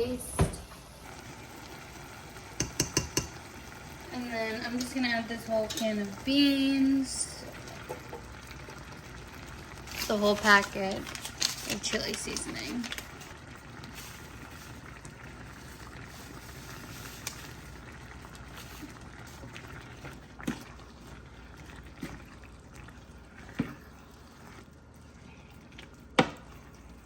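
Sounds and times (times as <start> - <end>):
pot bubbling and sizzling: 0.0 - 27.0.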